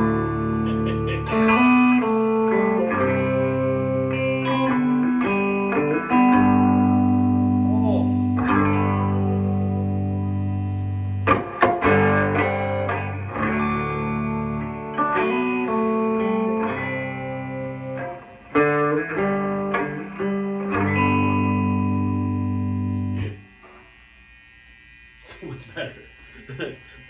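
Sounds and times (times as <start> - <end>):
electric guitar with reverb: 0.0 - 27.0.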